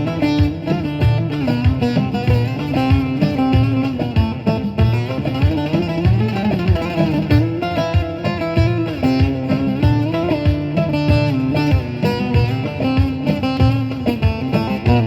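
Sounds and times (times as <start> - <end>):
saz played with a plectrum: 0.0 - 15.0
steady low beat: 0.0 - 15.0.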